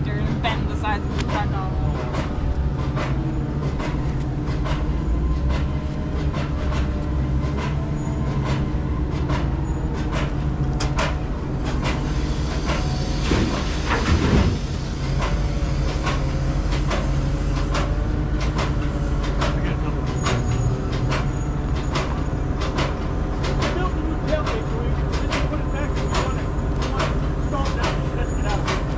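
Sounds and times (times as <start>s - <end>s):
rattles and clanks: 0.0s - 28.9s
truck engine and road rumble: 0.0s - 28.9s.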